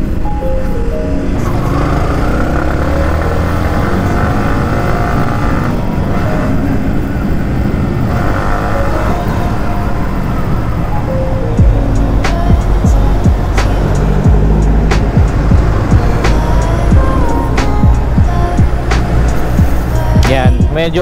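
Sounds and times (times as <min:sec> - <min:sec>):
motorcycle engine running: 0:01.2 - 0:10.9, 0:11.6 - 0:21.0.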